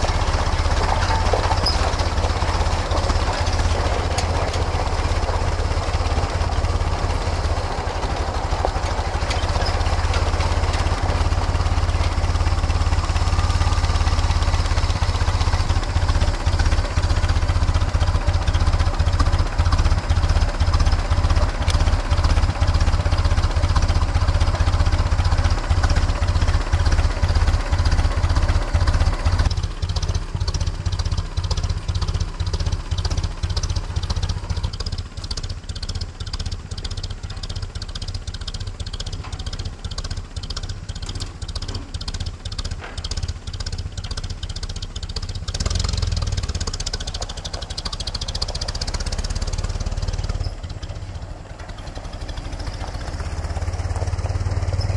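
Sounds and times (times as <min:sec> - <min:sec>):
old car engine running: 0:00.0 - 0:54.9.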